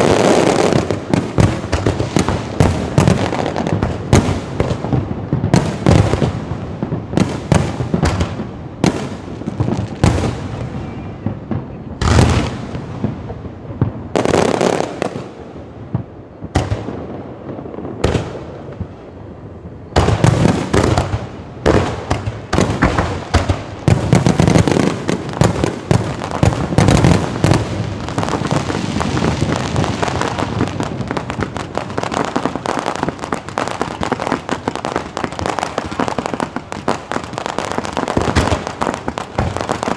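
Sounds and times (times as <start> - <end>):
fireworks and firecrackers bangs: 0.0 - 39.9.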